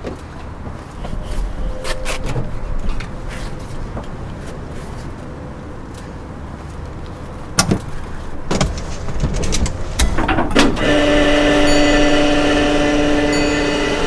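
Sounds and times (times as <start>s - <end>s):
steady hum of held tones: 0.0s - 14.0s.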